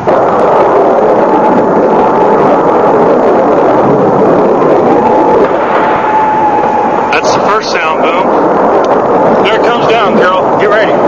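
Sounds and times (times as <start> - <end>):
air raid siren: 0.0 - 9.9
explosions rumbling roar: 0.0 - 11.0.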